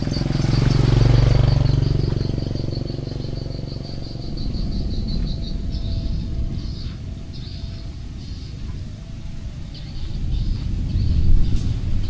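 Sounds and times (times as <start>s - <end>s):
high rapidly pulsing chirp: 0.0s - 12.0s
small motorcycle engine passing: 0.0s - 12.0s.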